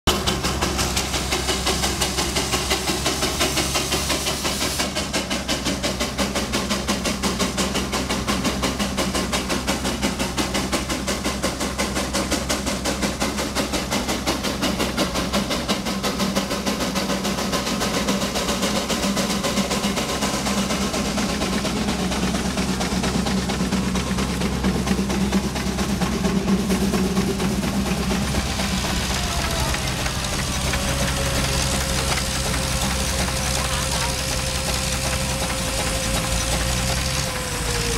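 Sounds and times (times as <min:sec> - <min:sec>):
steam engine exhaust chuffing: 0:00.0 - 0:37.9
high steam hiss: 0:00.2 - 0:37.9.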